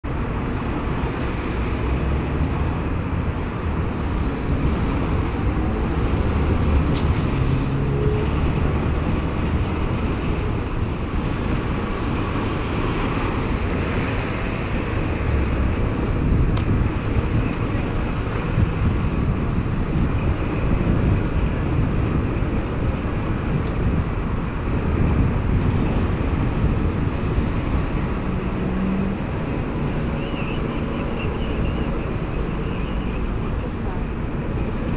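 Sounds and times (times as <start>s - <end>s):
cars passing on street: 0.0s - 34.9s.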